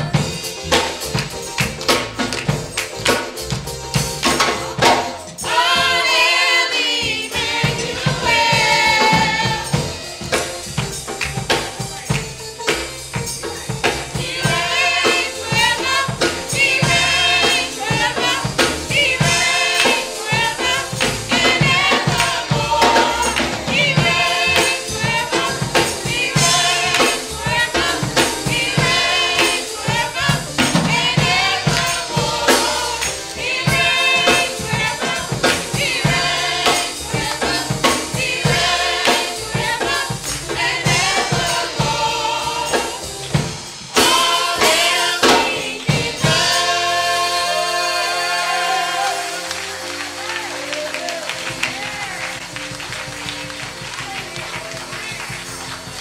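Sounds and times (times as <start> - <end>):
choir singing gospel song: 0.0 - 56.0
quick sharp percussion strikes: 0.0 - 56.0.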